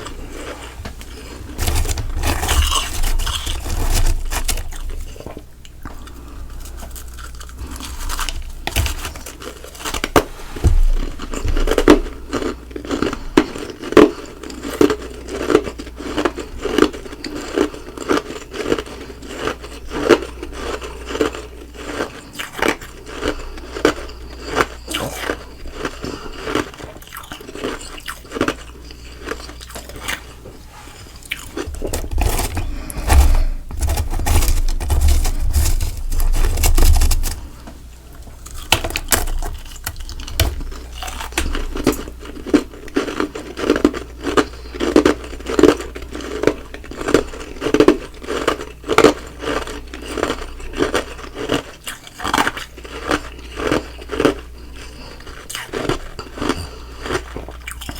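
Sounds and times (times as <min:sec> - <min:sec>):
chewing ice crunching: 0:00.0 - 0:57.9.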